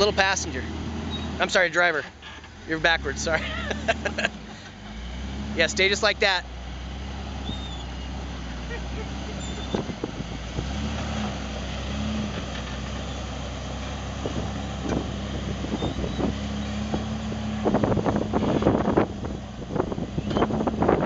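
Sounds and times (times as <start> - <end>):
car engine running at low revs: 0.0 - 21.0.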